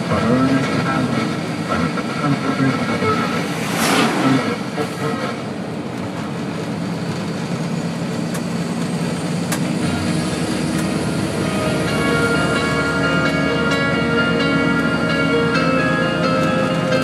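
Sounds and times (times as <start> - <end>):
truck cab road and engine noise: 0.0 - 17.0.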